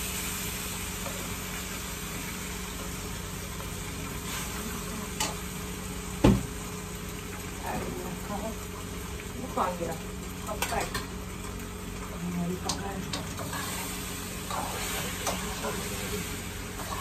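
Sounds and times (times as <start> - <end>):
masala sizzling in a pan: 0.0 - 17.0.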